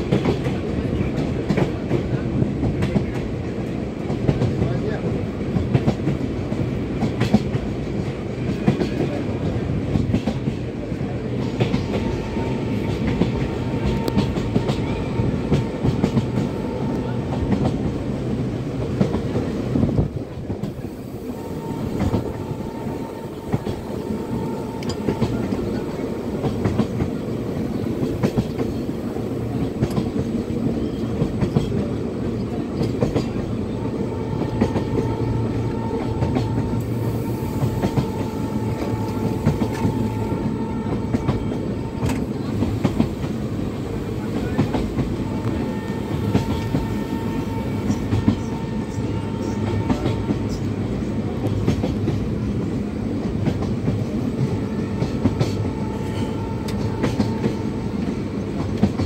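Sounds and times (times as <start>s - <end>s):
clickety-clack over rail joints: 0.0s - 20.8s, 21.7s - 37.0s, 37.6s - 59.0s
rumble of train wheels: 0.0s - 59.0s.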